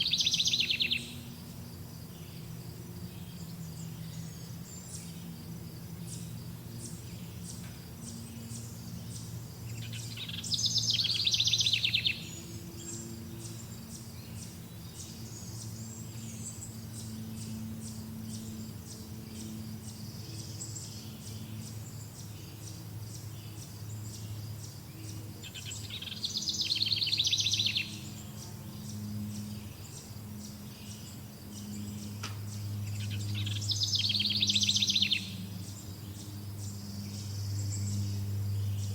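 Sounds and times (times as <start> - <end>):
songbird trilling: 0.0 - 1.5, 6.0 - 38.9
insects chirping: 0.0 - 38.9
low steady hum: 0.0 - 38.9.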